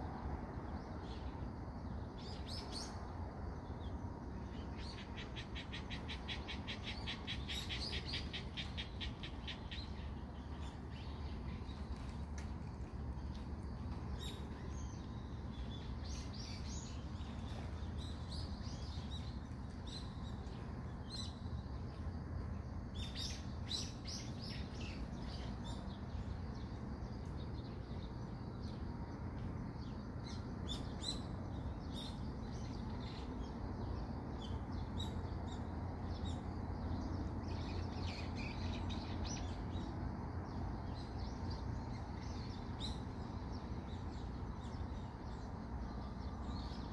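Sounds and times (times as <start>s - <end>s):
low background rumble: 0.0s - 46.9s
small birds chirping: 0.1s - 46.9s.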